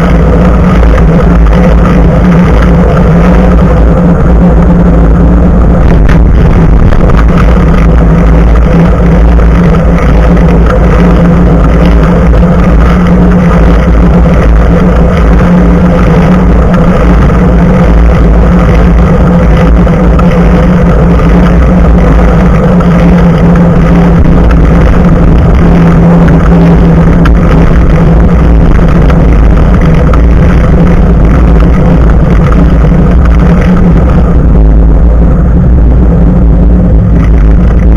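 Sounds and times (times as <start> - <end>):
constant low hum: 0.0 - 37.9
wind and tyre rumble on road: 0.0 - 37.9.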